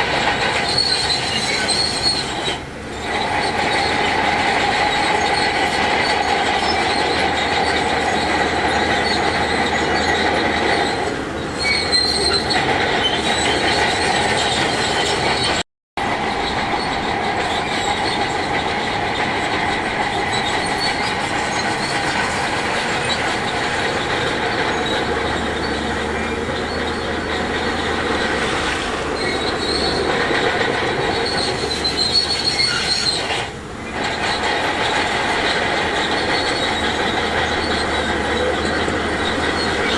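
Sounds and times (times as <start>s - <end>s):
steel tracks squealing: 0.0s - 39.9s.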